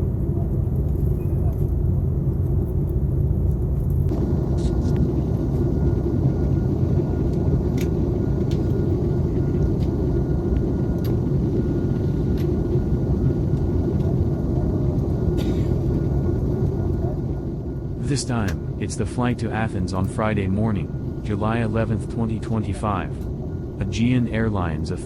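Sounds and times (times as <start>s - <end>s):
faint steady whine: 0.0s - 25.0s.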